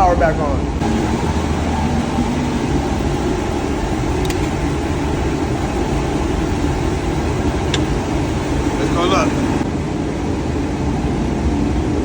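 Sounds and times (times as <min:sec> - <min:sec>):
machinery humming and rushing: 0:00.7 - 0:12.0.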